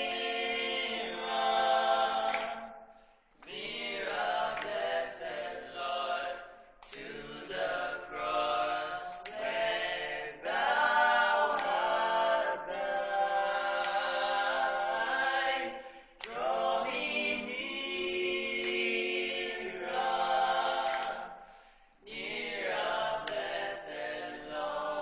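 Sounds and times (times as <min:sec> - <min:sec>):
voices singing in harmony: 0:00.0 - 0:25.0.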